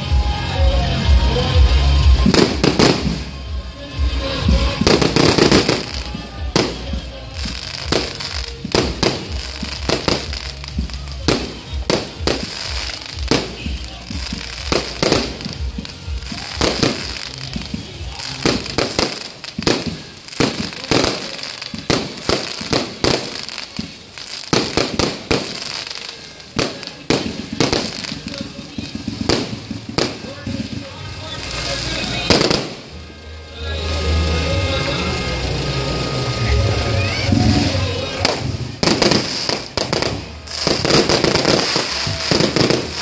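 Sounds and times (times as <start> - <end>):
fireworks bangs and pops: 0.0 - 33.2, 37.0 - 43.0.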